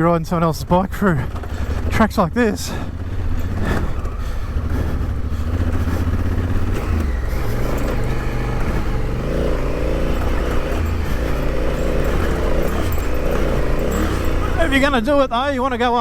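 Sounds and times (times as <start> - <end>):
motorcycle engine running: 0.0 - 16.0
tyres on dirt track: 0.0 - 16.0.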